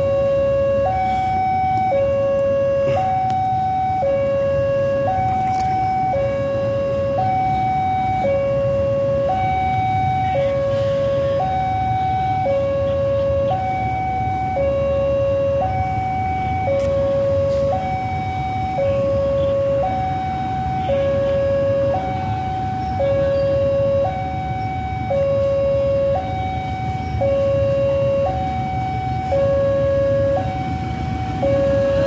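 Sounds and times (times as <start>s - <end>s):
two-tone crossing alarm: 0.0s - 32.0s.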